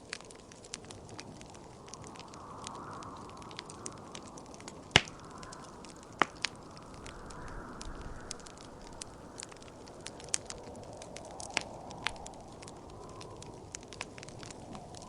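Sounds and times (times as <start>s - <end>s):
loud fire pops: 0.0s - 15.0s
soft rushing wind: 0.0s - 15.0s
wood fire crackling: 0.0s - 15.0s.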